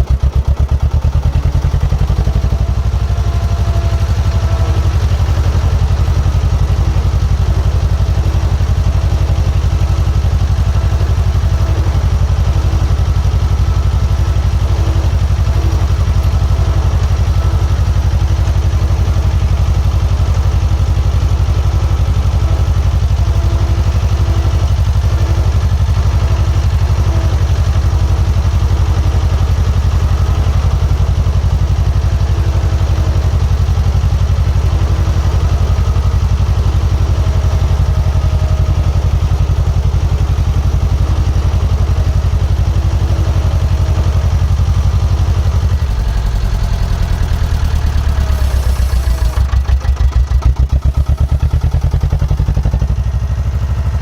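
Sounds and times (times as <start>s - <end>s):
diesel engine running steadily: 0.0s - 54.0s.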